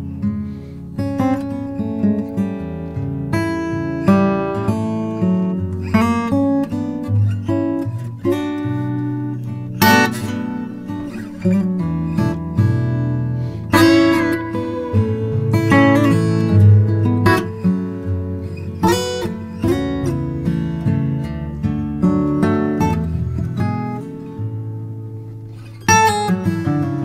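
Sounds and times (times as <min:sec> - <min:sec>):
picked acoustic guitar notes: 0:00.0 - 0:27.0
strummed guitar chords: 0:00.0 - 0:27.0.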